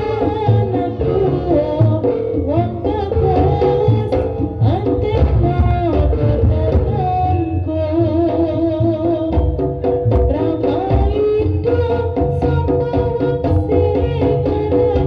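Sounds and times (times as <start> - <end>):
hand drums beating: 0.0 - 15.0.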